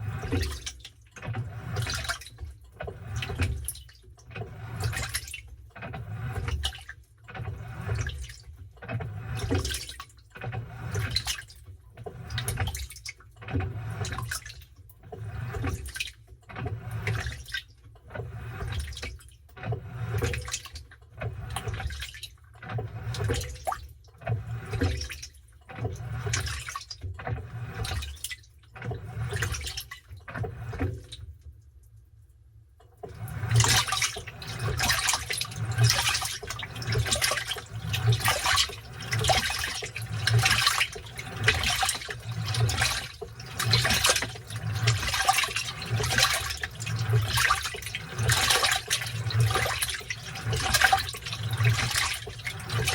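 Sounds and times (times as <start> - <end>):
washing machine sloshing: 0.0 - 52.9.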